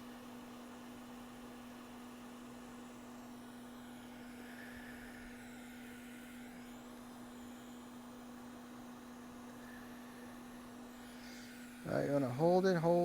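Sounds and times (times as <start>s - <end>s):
hot air station blowing: 0.0s - 13.0s.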